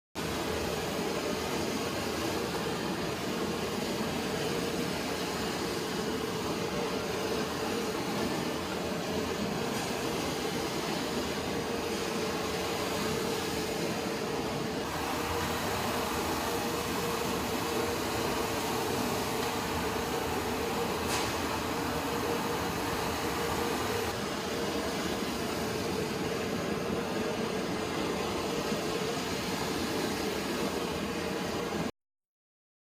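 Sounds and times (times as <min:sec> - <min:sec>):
washing machine humming: 0:00.2 - 0:31.9.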